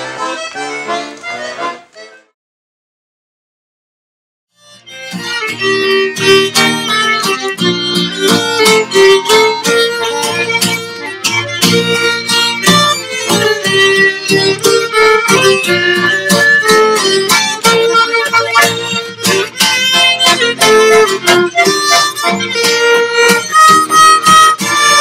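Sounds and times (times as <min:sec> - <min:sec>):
violin: 0:00.0 - 0:02.2, 0:04.6 - 0:25.0
button accordion: 0:00.0 - 0:02.4, 0:04.6 - 0:25.0
acoustic guitar strumming: 0:04.7 - 0:25.0.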